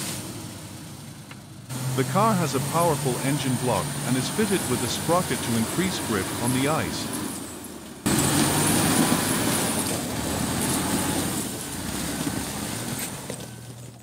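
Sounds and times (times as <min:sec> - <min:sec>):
heavy truck engine rumbling: 0:00.0 - 0:14.0.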